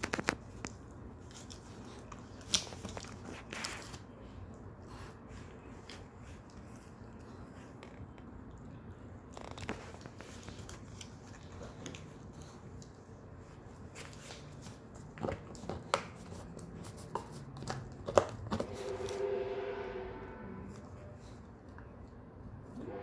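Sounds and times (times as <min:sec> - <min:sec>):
dog gnawing a horn chew: 0:00.0 - 0:18.9.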